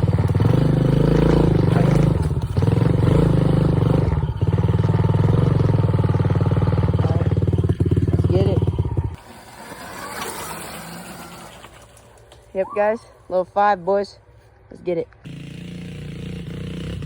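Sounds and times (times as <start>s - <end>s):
dirt bike engine running: 0.0s - 12.2s, 15.3s - 17.0s.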